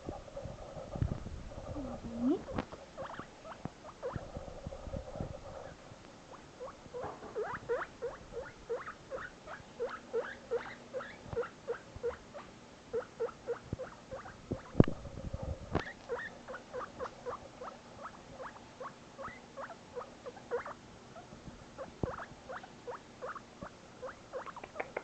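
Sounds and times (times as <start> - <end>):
guinea pig squeaking: 0.0 - 15.0, 15.7 - 25.0.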